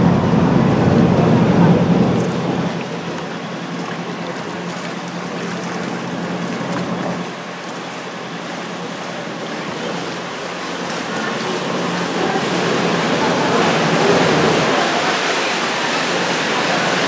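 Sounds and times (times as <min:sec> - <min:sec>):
low boat engine hum: 0:00.0 - 0:17.0
water and air rushing: 0:00.0 - 0:17.0.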